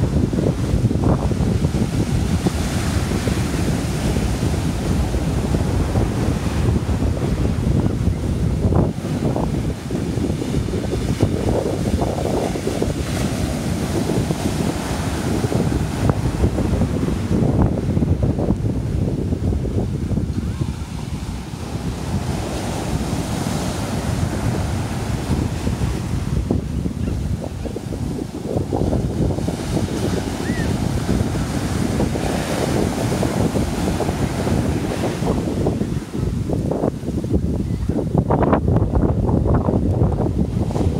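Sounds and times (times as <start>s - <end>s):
surf washing in: 0.0s - 40.9s
wind buffeting the microphone: 0.0s - 40.9s.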